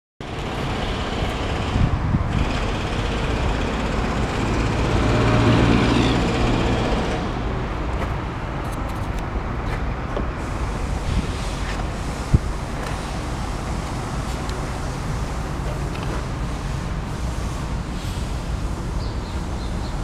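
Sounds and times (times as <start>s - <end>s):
diesel generator engine running: 0.2s - 20.0s.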